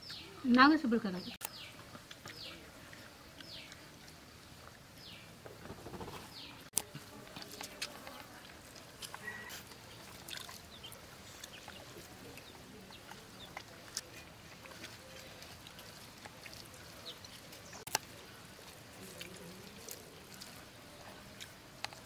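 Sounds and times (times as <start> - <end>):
faint outdoor background: 0.0 - 22.0.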